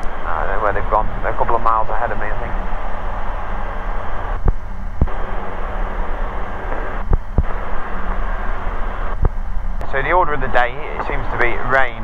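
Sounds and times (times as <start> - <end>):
light aircraft engine droning: 0.0 - 12.0
wind and airframe noise: 0.0 - 12.0.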